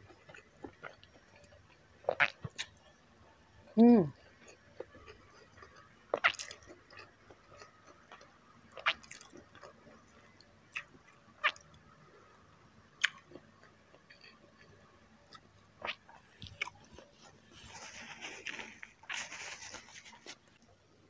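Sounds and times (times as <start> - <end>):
person chewing food: 0.0 - 2.9, 3.6 - 11.8, 13.0 - 20.4.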